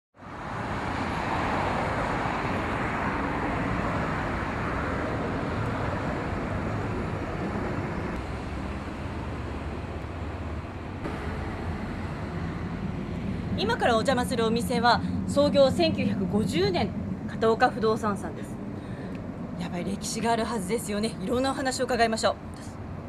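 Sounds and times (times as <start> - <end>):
cars passing on a street: 0.2 - 23.0.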